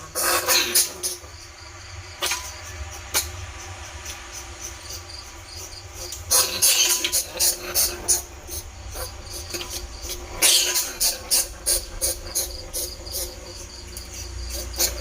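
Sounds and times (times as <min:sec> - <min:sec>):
rat chirping: 0:00.0 - 0:15.0
rat squealing: 0:00.0 - 0:15.0.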